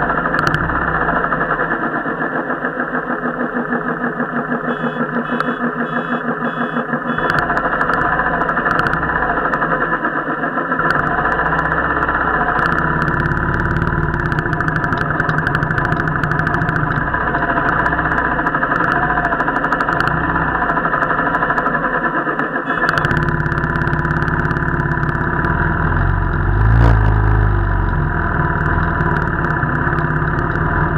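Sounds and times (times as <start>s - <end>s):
motorcycle engine running: 0.0s - 30.9s
scattered clicks: 0.0s - 30.9s.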